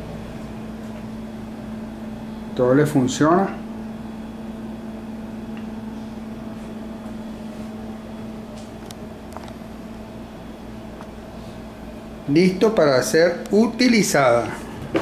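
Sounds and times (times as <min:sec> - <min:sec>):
refrigerator compressor humming: 0:00.0 - 0:15.0.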